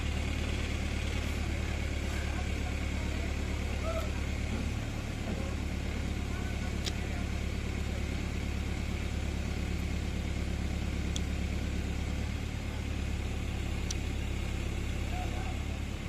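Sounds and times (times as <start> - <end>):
crane engine running: 0.0 - 16.0.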